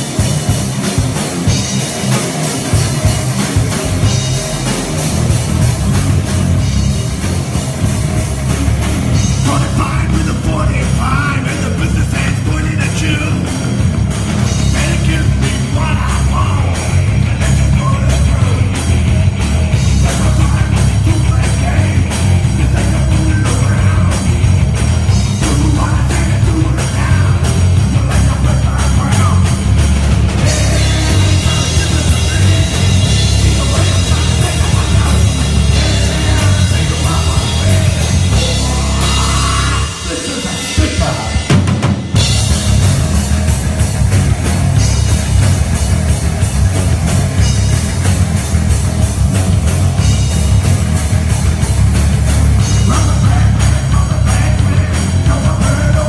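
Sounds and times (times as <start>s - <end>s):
amplified guitars: 0.0s - 56.0s
drum kit: 0.0s - 56.0s
rock band playing live: 0.0s - 56.0s.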